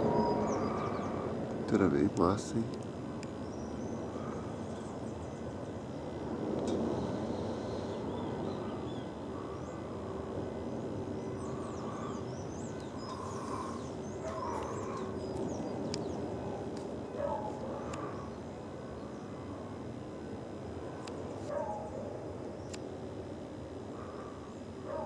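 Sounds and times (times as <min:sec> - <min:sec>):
small birds chirping: 0:00.0 - 0:20.1.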